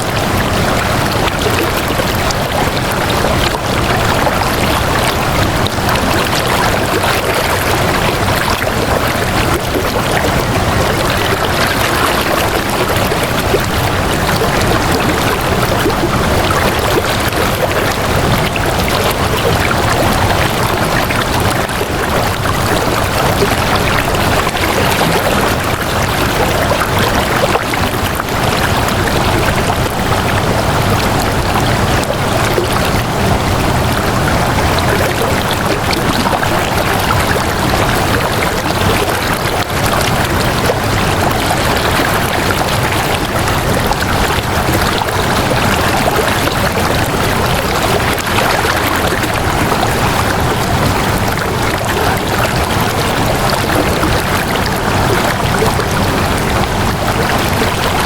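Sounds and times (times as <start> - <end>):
water flowing: 0.0 - 58.0.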